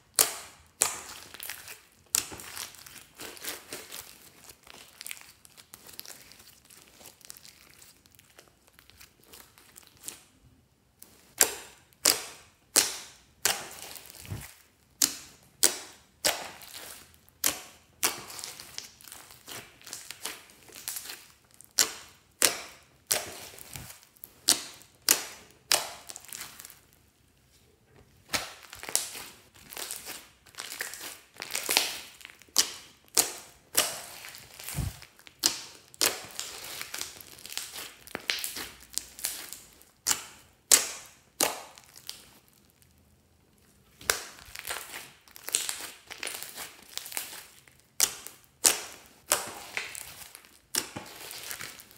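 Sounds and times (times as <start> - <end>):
hands squishing slime: 0.1 - 10.3, 11.0 - 27.0, 27.9 - 42.8, 43.6 - 51.9.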